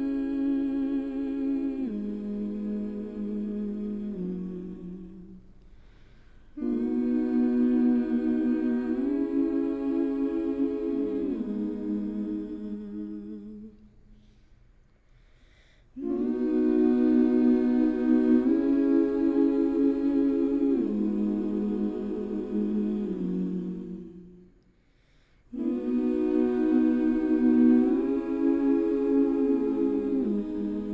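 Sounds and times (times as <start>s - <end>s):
layered voices humming chords: 0.0s - 5.4s, 6.5s - 14.0s, 16.0s - 24.6s, 25.5s - 30.9s.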